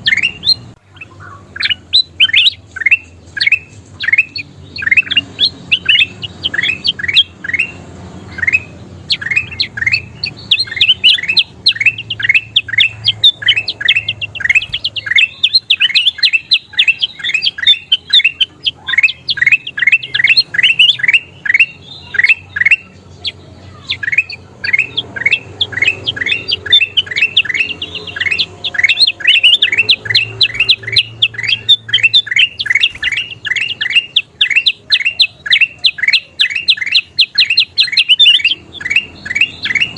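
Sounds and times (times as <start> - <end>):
bulbul chattering chirps: 0.0 - 39.9.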